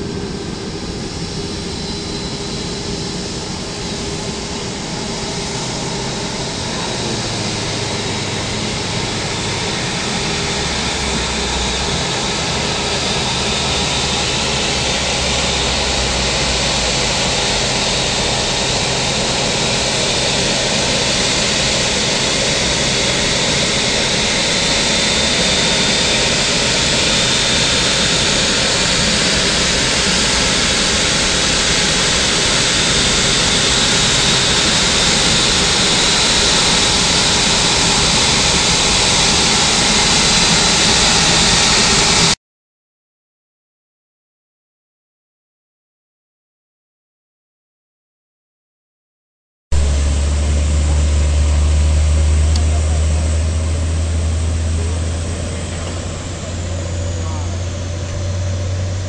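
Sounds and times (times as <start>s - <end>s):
jet engine roar with high whine: 0.0s - 42.4s, 49.7s - 59.0s.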